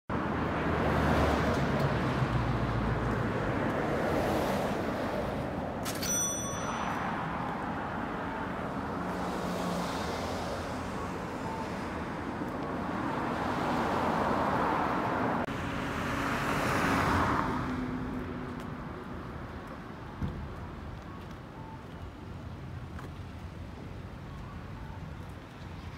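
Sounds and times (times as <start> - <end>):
cars passing: 0.1 - 24.3.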